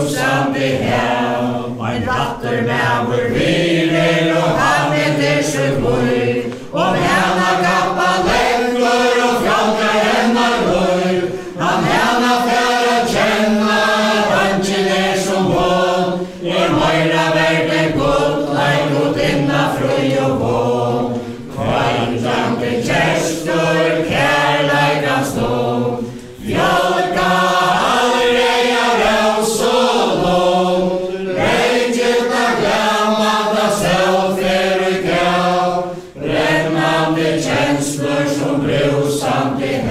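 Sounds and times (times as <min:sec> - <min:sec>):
group singing unaccompanied: 0:00.0 - 0:39.9.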